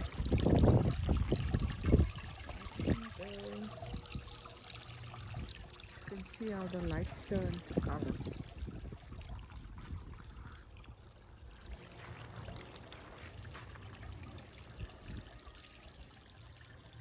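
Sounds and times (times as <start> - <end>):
water trickling and splashing over stones: 0.0 - 17.0.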